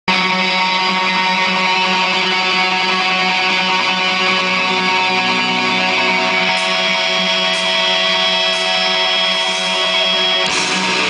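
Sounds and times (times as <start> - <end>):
distorted electric guitars: 0.1 - 11.0.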